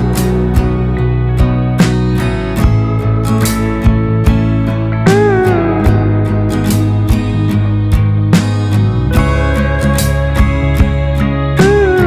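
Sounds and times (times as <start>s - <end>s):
guitar chords over a beat: 0.0s - 12.0s.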